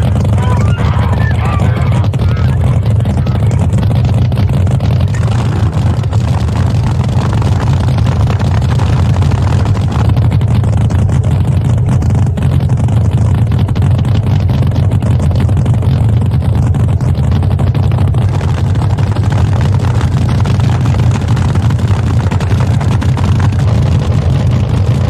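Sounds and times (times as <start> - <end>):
boat engine idling loudly: 0.0 - 25.0.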